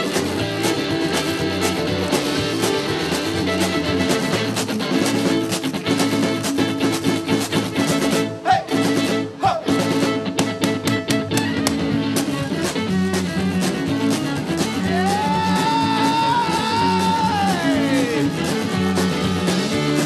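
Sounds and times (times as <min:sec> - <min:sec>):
country band playing: 0:00.0 - 0:20.0.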